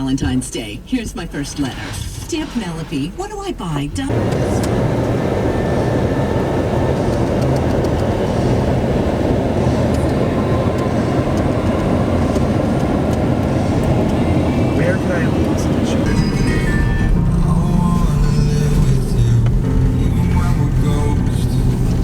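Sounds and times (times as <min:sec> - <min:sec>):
road noise: 0:04.1 - 0:22.0
suv engine rumble: 0:04.1 - 0:22.0.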